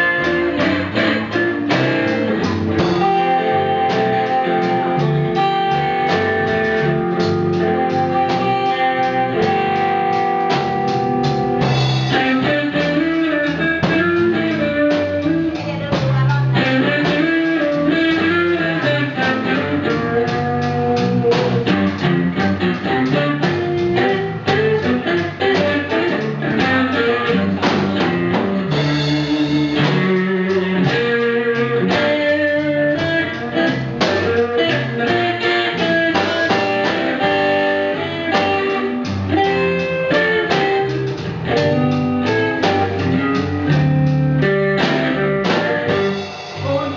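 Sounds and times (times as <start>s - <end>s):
guitar music over a beat: 0.0s - 46.9s.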